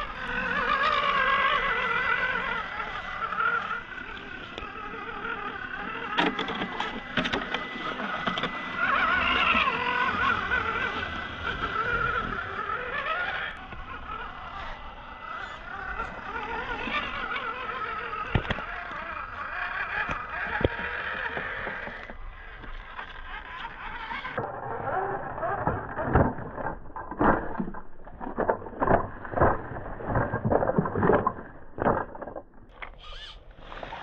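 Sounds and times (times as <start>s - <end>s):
electric motor whining: 0.0s - 34.0s.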